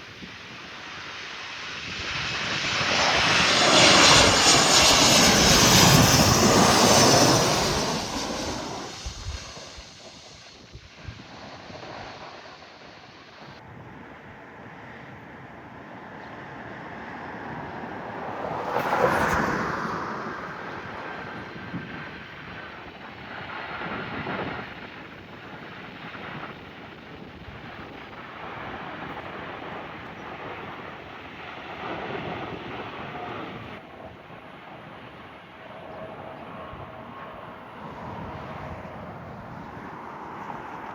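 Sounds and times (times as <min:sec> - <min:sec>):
jet airliner passing: 0:00.0 - 0:40.9
wind buffeting microphone: 0:01.6 - 0:14.2, 0:16.8 - 0:40.9.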